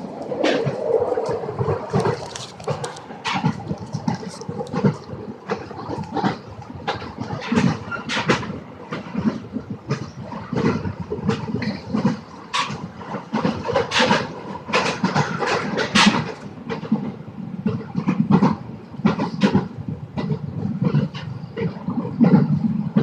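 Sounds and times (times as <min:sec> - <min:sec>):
train clattering and rattling: 0:00.0 - 0:23.0.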